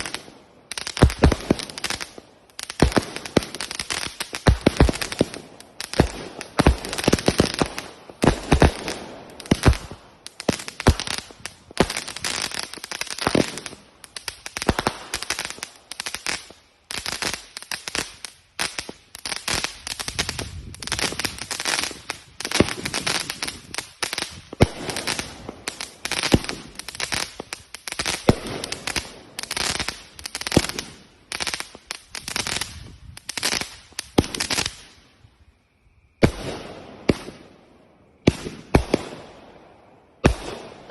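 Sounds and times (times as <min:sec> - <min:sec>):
fireworks bangs and crackling: 0:00.0 - 0:35.1, 0:36.1 - 0:40.9.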